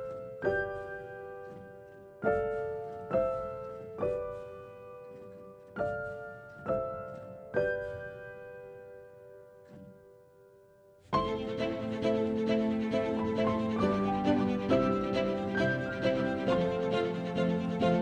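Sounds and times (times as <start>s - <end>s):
slow soft piano chords: 0.0s - 18.0s.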